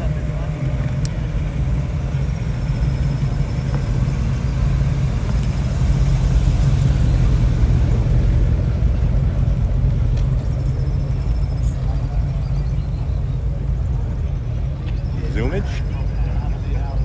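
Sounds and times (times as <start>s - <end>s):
car engine deep rumble: 0.0s - 17.0s
faint high turbo whine: 0.0s - 17.0s.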